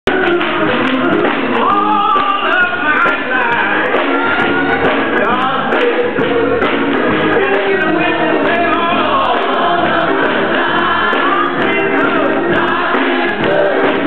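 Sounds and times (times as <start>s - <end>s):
band and choir: 0.1s - 14.0s
congregation clapping: 0.1s - 14.0s
man singing into microphone: 1.0s - 6.6s, 7.3s - 14.0s.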